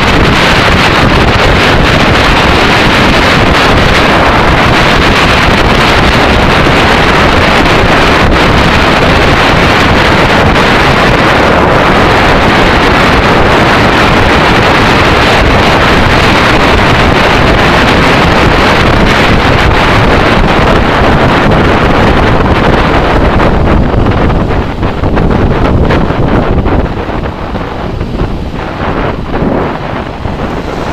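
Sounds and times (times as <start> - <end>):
wind rushing across microphone: 0.0 - 30.9.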